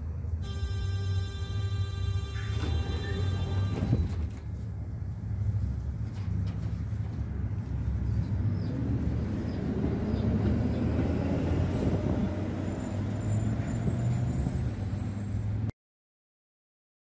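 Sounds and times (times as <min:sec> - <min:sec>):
tram traction hum: 0:00.0 - 0:15.7
tram wheels rumbling on rails: 0:01.7 - 0:15.7.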